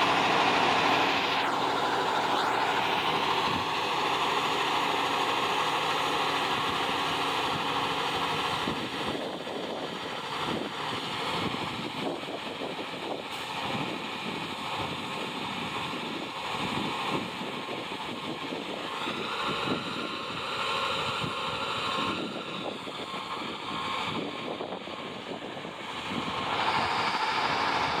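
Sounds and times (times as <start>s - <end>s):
wind buffeting microphone: 0.0s - 3.9s, 6.5s - 28.0s
truck and wheels rumbling: 0.0s - 28.0s.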